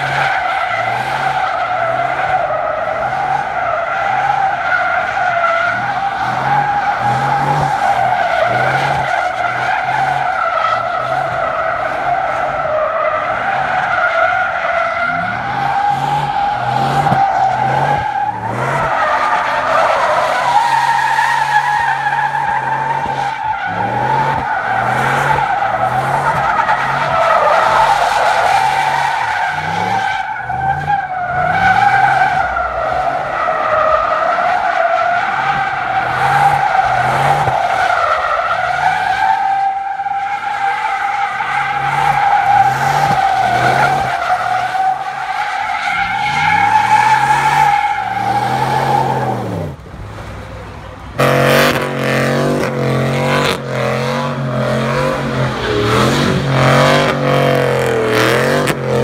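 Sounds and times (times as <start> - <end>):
car engine revving: 0.0 - 40.2, 40.9 - 59.0
car tyres squealing: 0.0 - 59.0.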